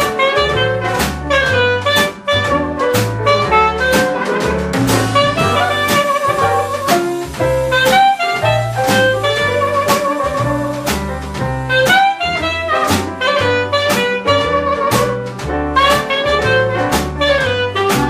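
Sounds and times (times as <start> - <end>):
clarinet melody: 0.0 - 18.0
drum kit: 0.0 - 18.0
piano: 0.0 - 18.0
walking double bass: 0.0 - 18.0.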